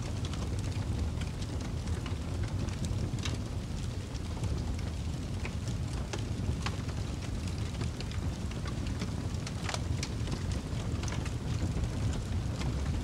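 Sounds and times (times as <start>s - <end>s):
low rumble of flames: 0.0s - 13.0s
wood crackling and popping: 0.0s - 13.0s.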